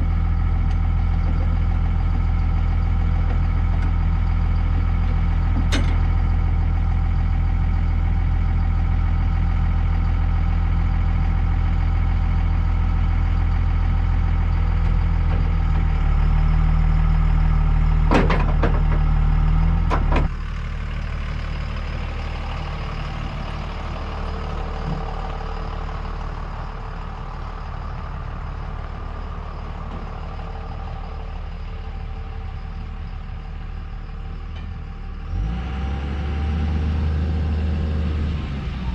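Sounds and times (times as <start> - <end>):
heavy machine engine idling: 0.0 - 38.9.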